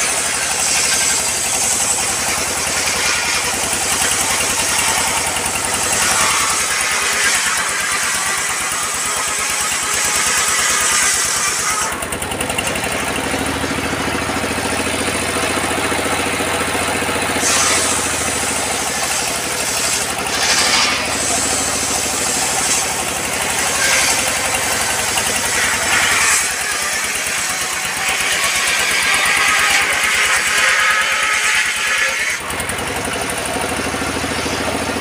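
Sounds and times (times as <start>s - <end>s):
saw blade ripping log: 0.0s - 33.0s
diesel engine running: 0.0s - 35.0s.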